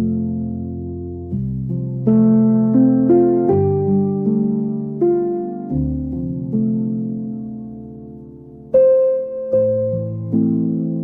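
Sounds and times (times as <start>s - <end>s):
soft slow instrumental music: 0.0s - 11.0s.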